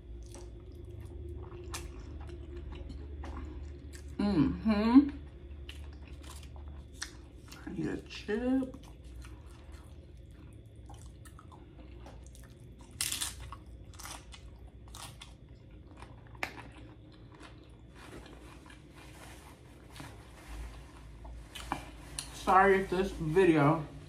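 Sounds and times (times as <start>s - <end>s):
crunchy chewing of chip: 0.0s - 4.2s, 5.2s - 8.1s, 8.7s - 22.3s.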